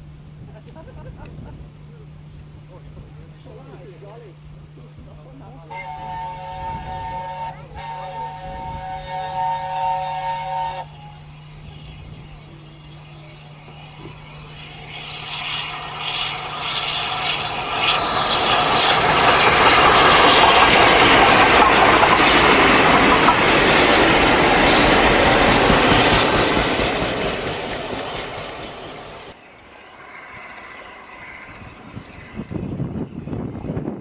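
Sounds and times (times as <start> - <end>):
train passing: 0.0 - 34.0.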